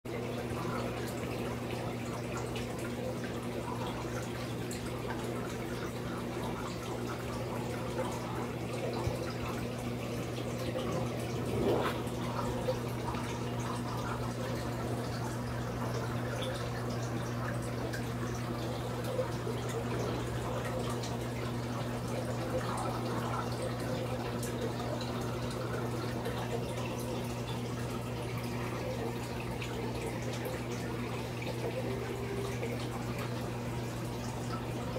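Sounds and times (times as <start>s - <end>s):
water trickling and dripping: 0.1s - 34.9s
steady low hum: 0.2s - 30.3s.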